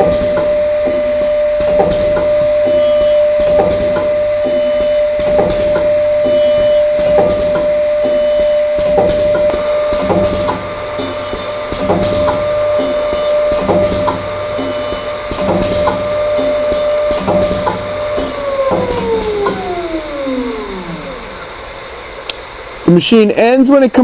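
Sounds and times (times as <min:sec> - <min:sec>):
machine indexing knocks: 0:00.0 - 0:21.2
grinding spindle whine: 0:00.0 - 0:24.0.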